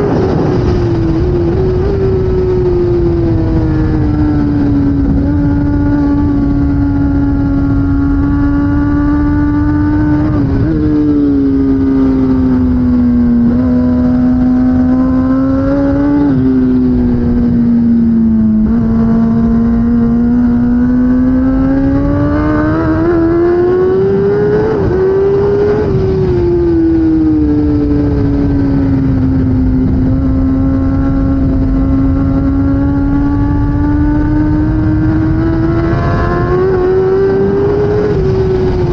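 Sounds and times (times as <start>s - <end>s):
motorcycle engine revving: 0.0s - 38.9s
steady rushing noise: 0.0s - 38.9s.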